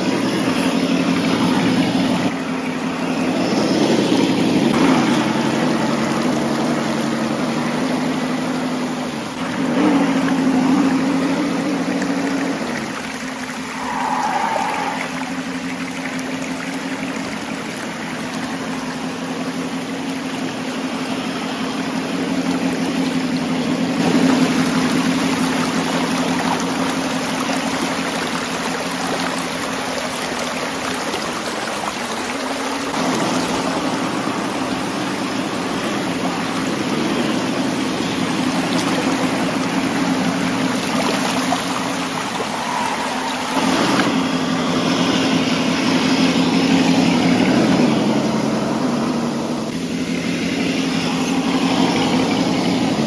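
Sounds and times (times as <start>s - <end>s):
rushing splashing water: 0.0s - 53.0s.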